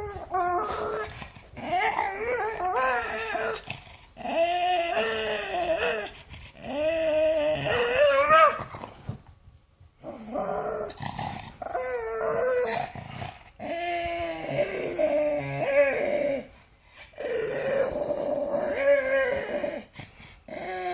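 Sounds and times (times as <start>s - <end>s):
dog growl-like vocal noises: 0.0s - 9.0s, 10.0s - 20.9s.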